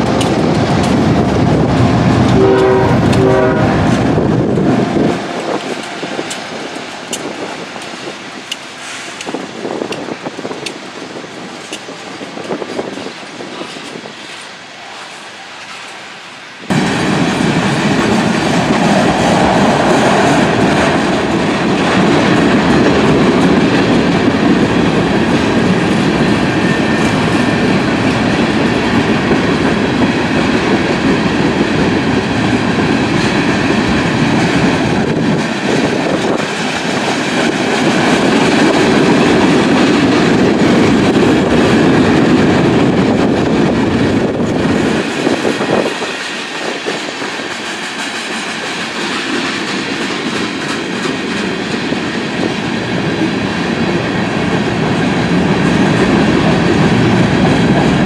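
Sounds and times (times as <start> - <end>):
distant train passing: 0.0 - 58.0
steel wheels on rails: 0.0 - 58.0.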